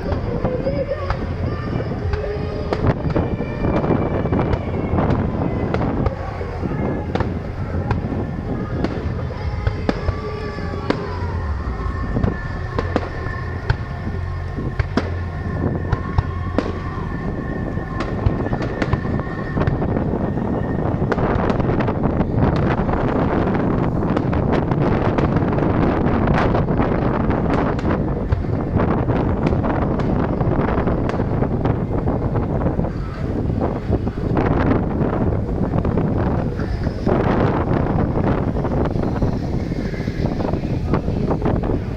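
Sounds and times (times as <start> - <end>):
continuous low rumble: 0.0 - 41.9
fireworks bangs and crackles: 0.0 - 41.9.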